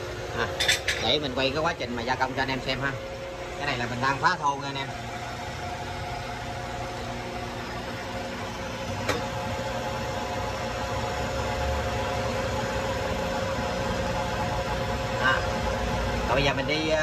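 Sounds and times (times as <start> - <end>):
metal lathe humming and whining: 0.0 - 17.0.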